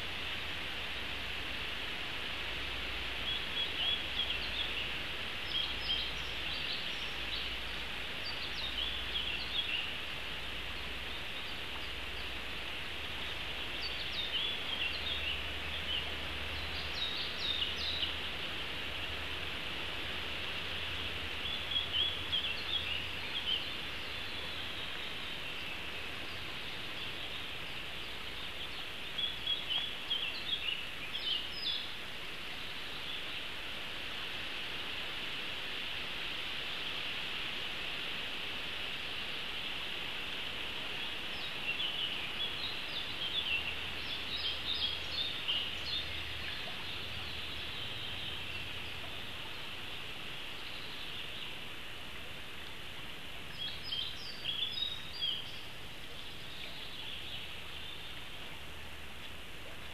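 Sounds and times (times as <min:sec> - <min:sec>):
forest ambience hiss: 0:00.0 - 0:59.9
songbird chirping: 0:00.0 - 0:59.9.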